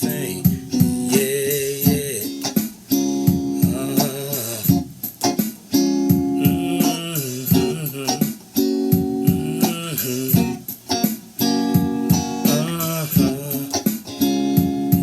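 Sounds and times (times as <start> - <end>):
guitar playing chords: 0.0 - 15.0.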